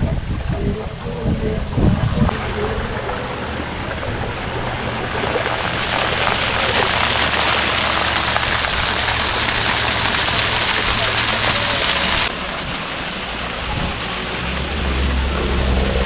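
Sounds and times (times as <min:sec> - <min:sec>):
waterfall rushing and splashing: 0:02.3 - 0:16.0.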